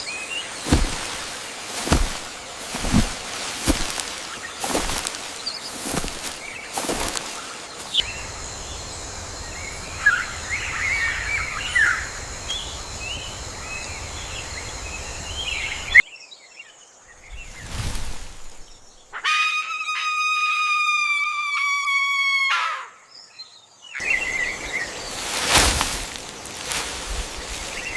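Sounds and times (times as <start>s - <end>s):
small birds chirping: 0.0s - 17.8s, 23.2s - 27.9s.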